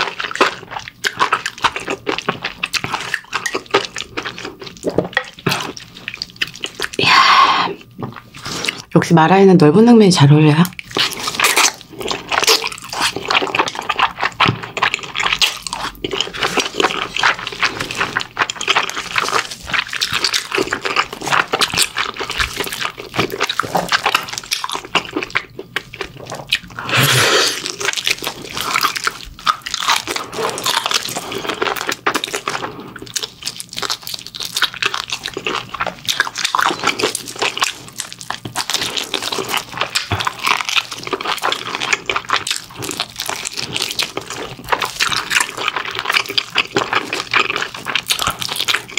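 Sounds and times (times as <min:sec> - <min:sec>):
person chewing wetly: 0:00.0 - 0:08.9, 0:10.6 - 0:48.9.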